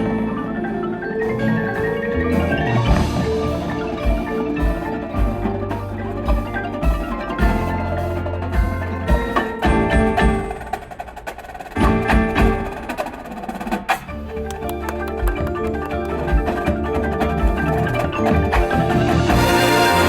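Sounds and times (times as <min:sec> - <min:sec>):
marimbas playing: 0:00.0 - 0:20.0
sharp percussion hits: 0:01.3 - 0:20.0.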